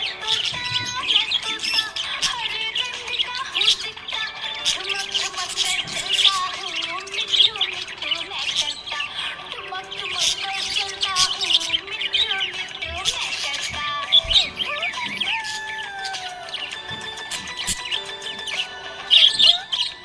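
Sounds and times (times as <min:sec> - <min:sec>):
budgerigars chirping and warbling: 0:00.0 - 0:20.0.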